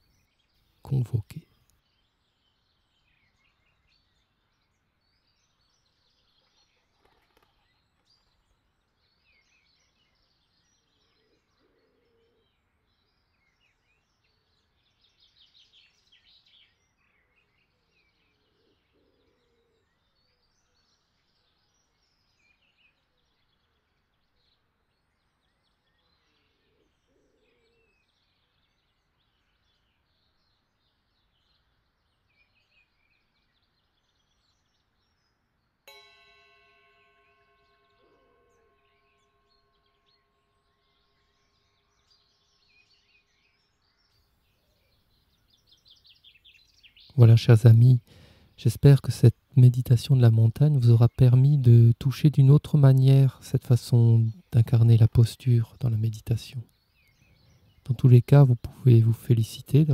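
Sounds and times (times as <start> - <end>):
bird trill: 0.0 - 59.9
faint bird chirps: 0.0 - 59.9.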